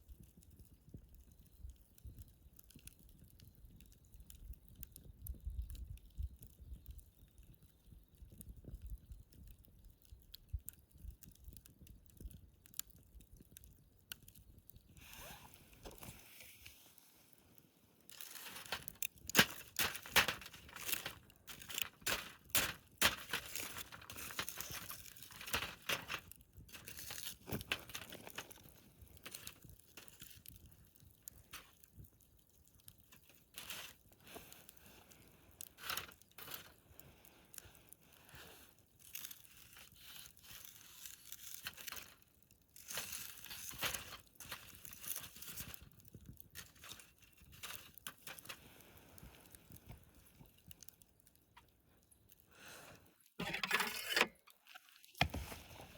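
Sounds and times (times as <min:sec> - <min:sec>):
campfire crackling and popping: 0:00.0 - 0:16.1, 0:17.2 - 0:55.7.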